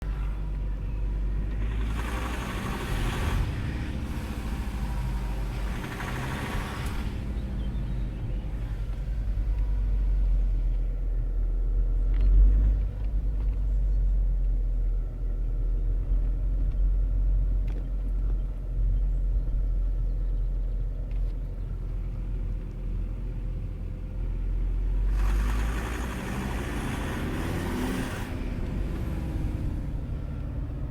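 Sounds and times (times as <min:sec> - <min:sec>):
diesel engine rattling: 0:00.0 - 0:30.9.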